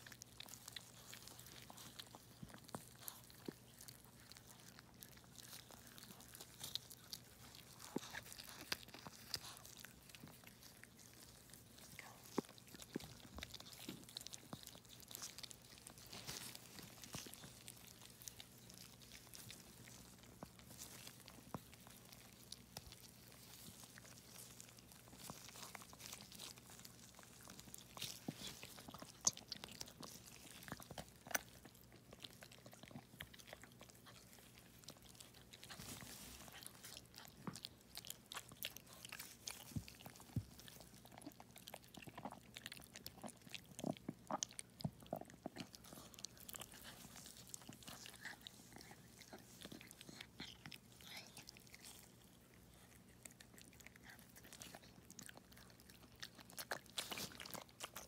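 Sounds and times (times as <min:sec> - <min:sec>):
faint low hum: 0:00.0 - 0:58.0
faint wet clicks and smacks: 0:00.0 - 0:58.0.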